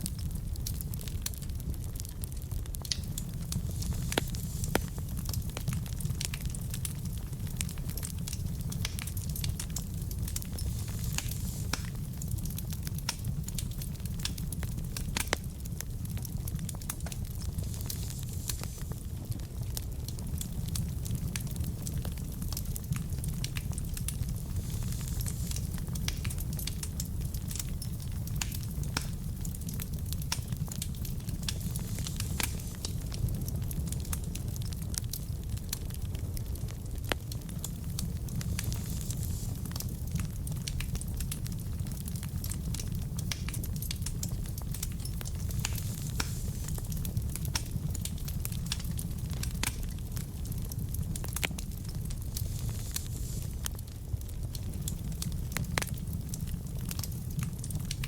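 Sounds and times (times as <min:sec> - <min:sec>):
flames rumbling in fireplace: 0:00.0 - 0:58.0
logs crackling and popping: 0:00.0 - 0:58.0.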